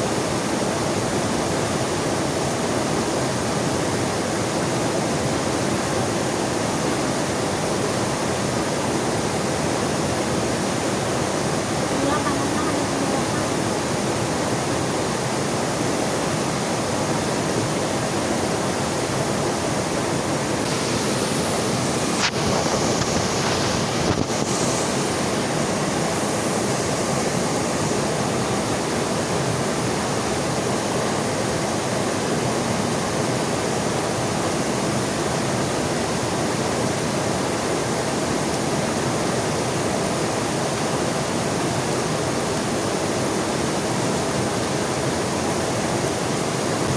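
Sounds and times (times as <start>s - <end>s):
river rushing: 0.0s - 46.9s
heavy rain falling: 7.9s - 46.9s.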